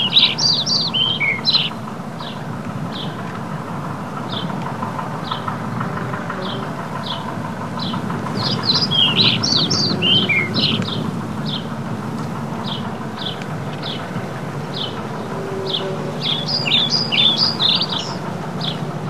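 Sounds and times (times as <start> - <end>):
songbirds chirping: 0.0 - 19.0
steady low rumble: 0.0 - 19.0.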